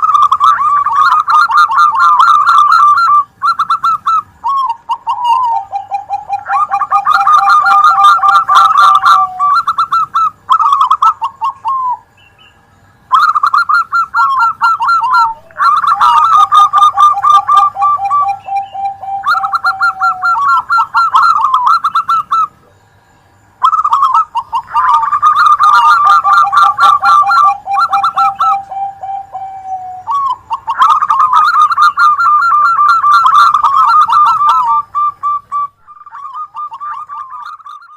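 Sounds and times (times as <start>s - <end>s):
doves cooing: 0.0s - 12.4s, 13.1s - 23.0s, 23.6s - 37.9s.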